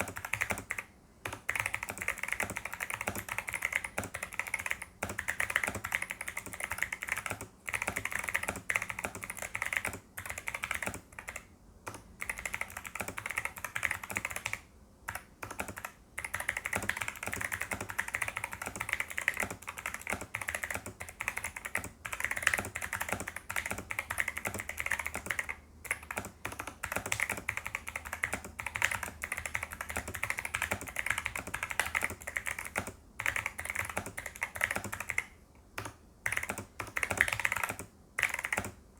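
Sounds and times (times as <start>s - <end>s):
fast mechanical keyboard typing: 0.0s - 38.8s.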